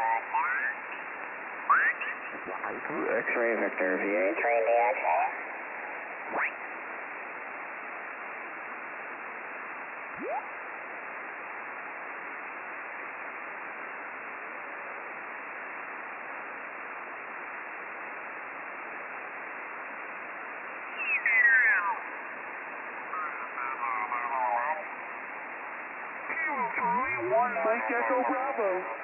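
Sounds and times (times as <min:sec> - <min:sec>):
radio receiver static hiss: 0:00.0 - 0:29.0.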